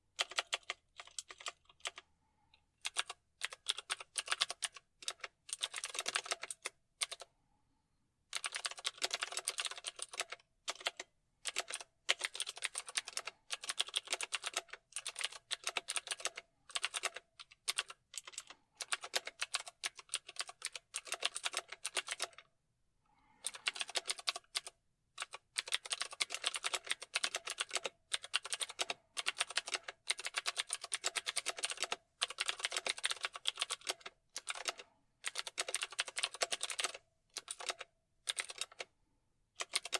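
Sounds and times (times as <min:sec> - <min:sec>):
fast typing on keyboard: 0:00.1 - 0:02.0, 0:02.8 - 0:07.3, 0:08.3 - 0:22.5, 0:23.4 - 0:38.9, 0:39.6 - 0:39.9.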